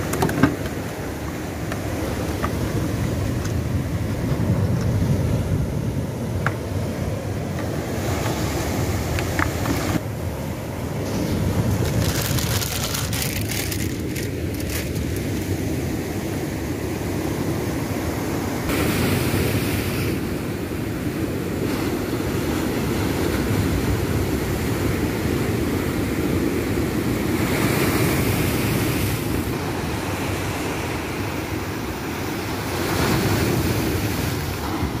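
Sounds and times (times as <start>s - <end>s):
sea surf washing over rocks: 0.0s - 35.0s.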